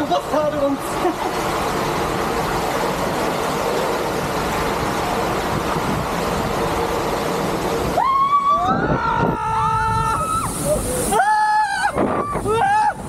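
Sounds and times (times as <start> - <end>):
water rushing through slide tube: 0.0 - 13.0.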